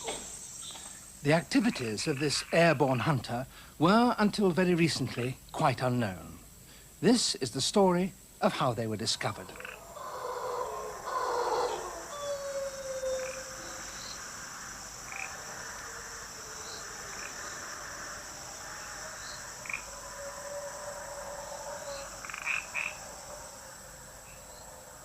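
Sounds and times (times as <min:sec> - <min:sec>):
frogs calling: 0:00.0 - 0:03.4, 0:07.7 - 0:25.0
high insect hum: 0:00.0 - 0:25.0.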